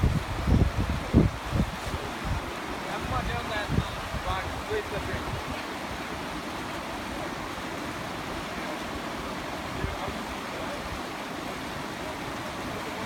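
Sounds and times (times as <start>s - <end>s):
river rushing through rapids: 0.0s - 13.0s.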